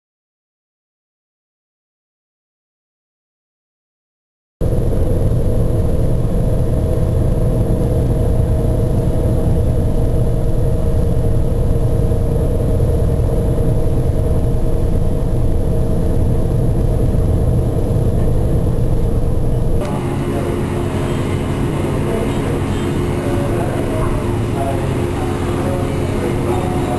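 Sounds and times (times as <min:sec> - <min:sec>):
ship engines rumbling: 0:04.6 - 0:26.9
steady engine hum: 0:04.6 - 0:26.9.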